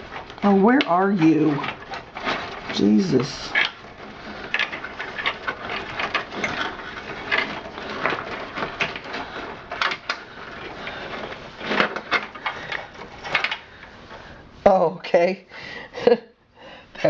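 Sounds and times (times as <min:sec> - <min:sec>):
computer cables clicking and rustling: 0:00.0 - 0:14.5.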